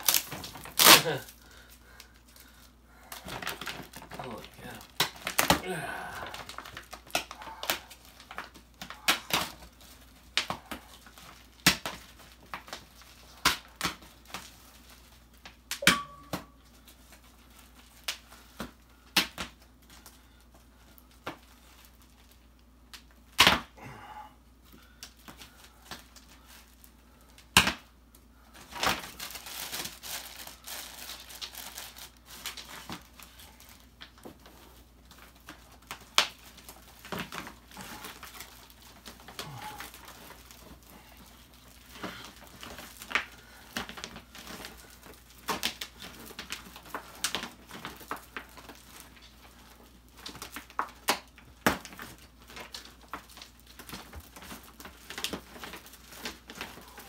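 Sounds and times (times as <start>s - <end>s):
plastic rustling: 0.0s - 23.4s, 24.6s - 57.0s
plastic wrapping crackling and tearing: 0.0s - 23.7s, 24.6s - 57.0s.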